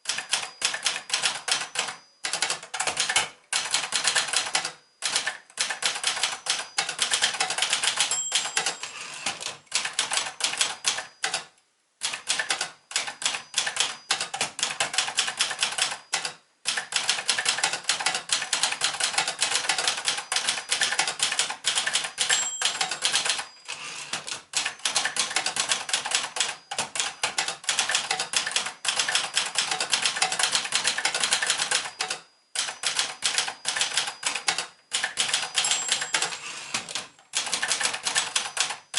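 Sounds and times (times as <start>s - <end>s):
typewriter keys clacking: 0.0s - 11.5s, 12.1s - 38.9s
typewriter bell ding: 0.1s - 3.3s, 3.9s - 11.5s, 12.4s - 14.4s, 15.0s - 38.9s.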